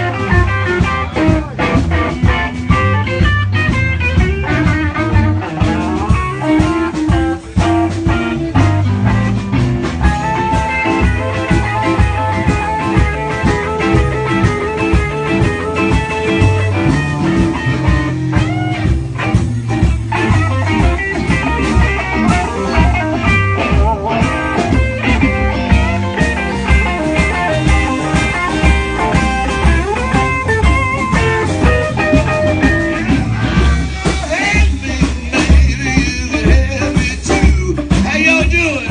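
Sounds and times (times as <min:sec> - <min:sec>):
electric guitar: 0:00.0 - 0:38.9
live blues band playing: 0:00.0 - 0:38.9.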